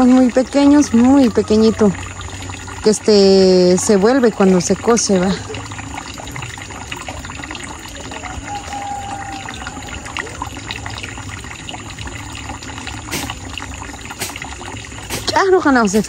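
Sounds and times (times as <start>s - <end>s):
water splashing and trickling: 0.0s - 16.0s.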